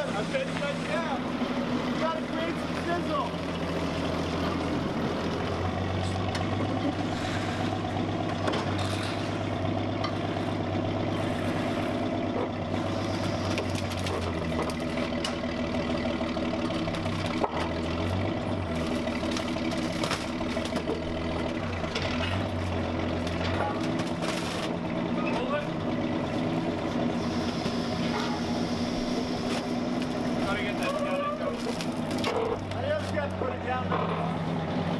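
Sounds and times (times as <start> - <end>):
forklift engine running: 0.0 - 34.9.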